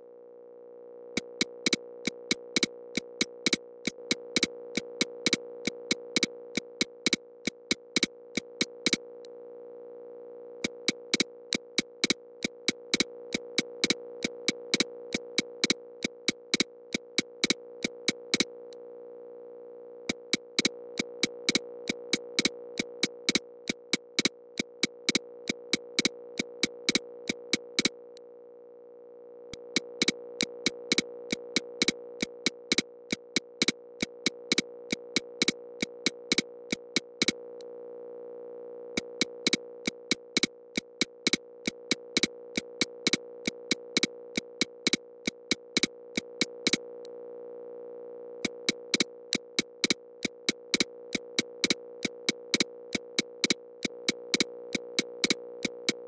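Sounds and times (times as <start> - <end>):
sharp clicks: 1.2 - 9.0, 10.6 - 18.5, 20.1 - 28.0, 29.6 - 37.4, 39.0 - 46.8, 48.4 - 56.0.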